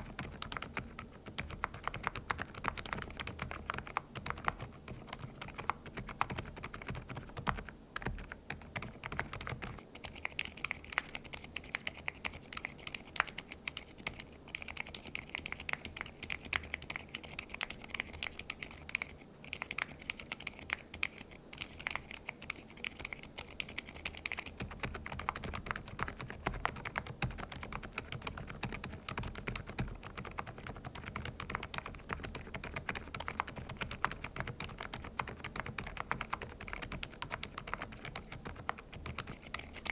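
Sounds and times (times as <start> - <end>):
soft muted keyboard typing: 0.0 - 39.9.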